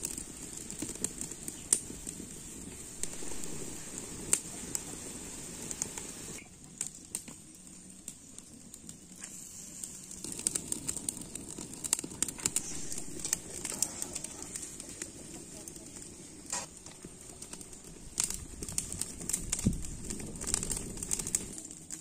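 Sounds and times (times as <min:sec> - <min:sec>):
curry boiling with bubbling hiss: 0:00.0 - 0:22.0
wood fire crackles and pops: 0:00.0 - 0:22.0.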